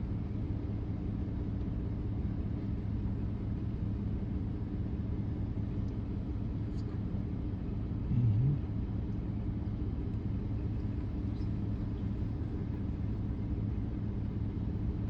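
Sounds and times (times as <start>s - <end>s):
vehicle idling rumble: 0.0s - 15.0s.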